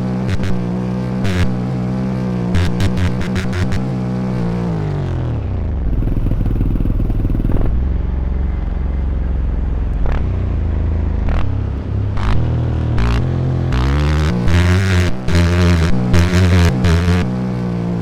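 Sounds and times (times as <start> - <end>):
dirt bike engine droning: 0.0 - 18.0.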